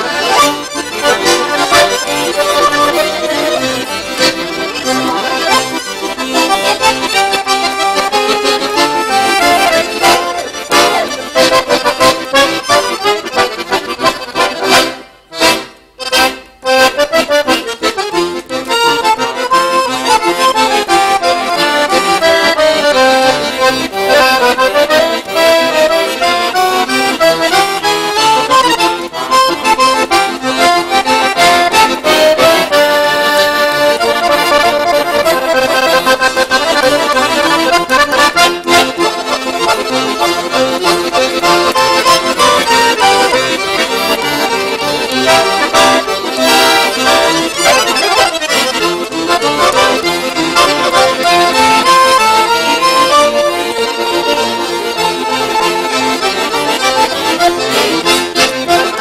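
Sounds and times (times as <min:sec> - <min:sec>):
accordion duet: 0:00.0 - 0:59.0.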